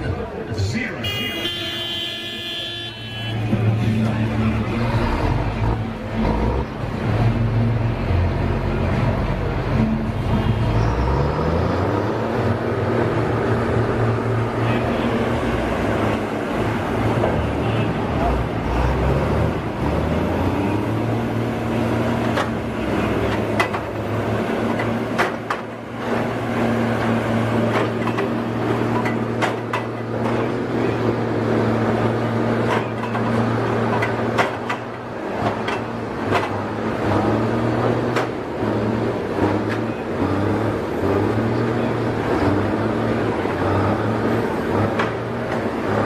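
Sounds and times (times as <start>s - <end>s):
heavy machinery engine running: 3.4s - 46.0s.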